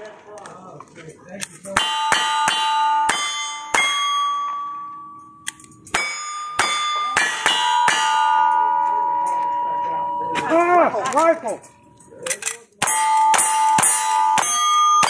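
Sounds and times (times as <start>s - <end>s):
steel plate ringing: 1.7s - 12.2s, 12.8s - 15.0s.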